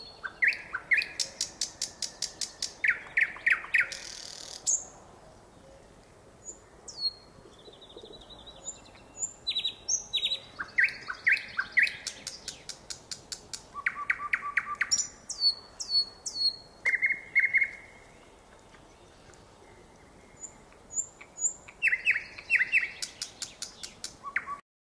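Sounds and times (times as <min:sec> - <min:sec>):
nightingale singing: 0:00.0 - 0:24.6.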